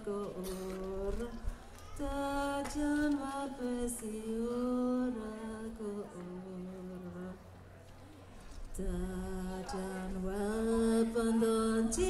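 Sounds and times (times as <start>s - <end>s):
woman singing chanted song: 0.0s - 7.6s, 8.7s - 12.0s.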